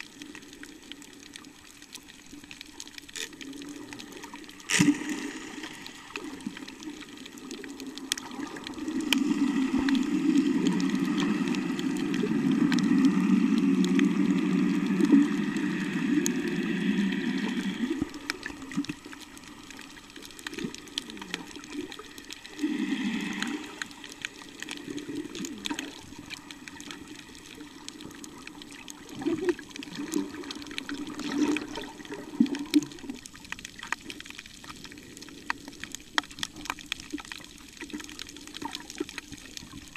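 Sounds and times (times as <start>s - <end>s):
low underwater rumble: 0.0s - 39.9s
underwater sloshing and gurgling: 0.0s - 39.9s.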